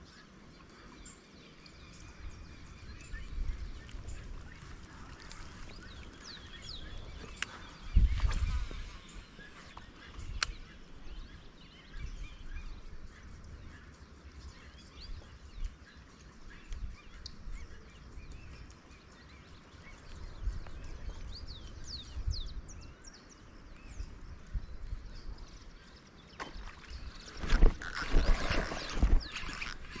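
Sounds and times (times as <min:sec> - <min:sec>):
birds chirping: 0:00.0 - 0:30.0
wind rumbling on microphone: 0:00.0 - 0:30.0.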